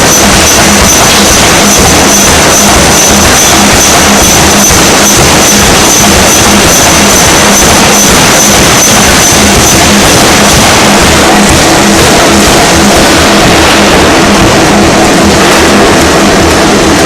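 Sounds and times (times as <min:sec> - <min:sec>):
forging hammer blows: 0:00.0 - 0:17.0.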